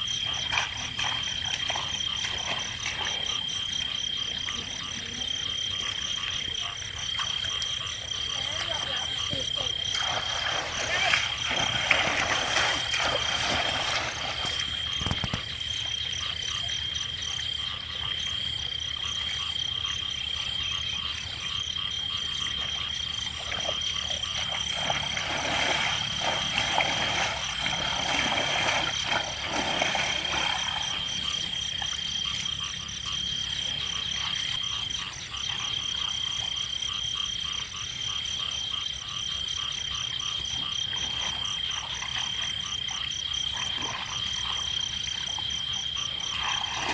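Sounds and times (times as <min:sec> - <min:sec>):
water sloshing and splashing: 0:00.0 - 0:37.2, 0:39.6 - 0:46.9
frogs croaking: 0:00.0 - 0:46.9.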